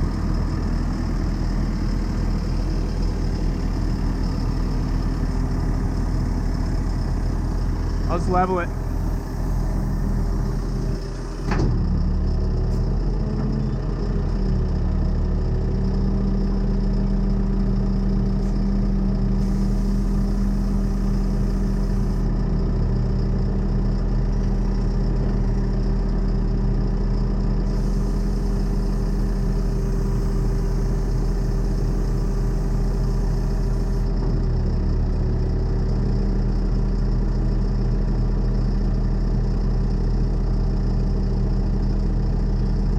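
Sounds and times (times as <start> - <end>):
truck engine running: 0.0 - 42.9.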